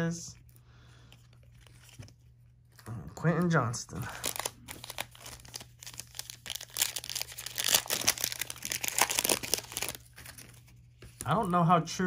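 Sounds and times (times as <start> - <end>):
cards being handled: 1.1 - 11.6
plastic wrappers crinkling: 1.2 - 11.4.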